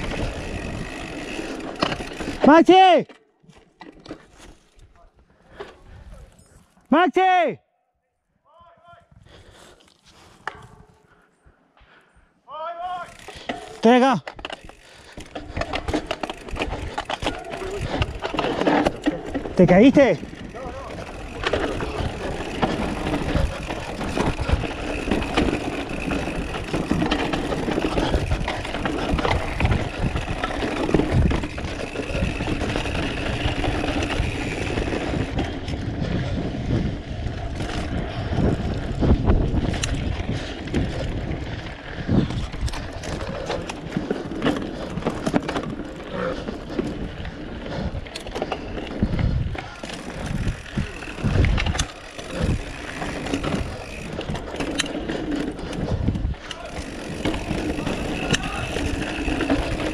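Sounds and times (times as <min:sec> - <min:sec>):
bike knocking and rattling: 0:00.0 - 0:05.8, 0:12.8 - 0:59.9
bike tyre noise on dirt: 0:00.0 - 0:06.9, 0:09.2 - 0:12.1, 0:12.8 - 0:59.9.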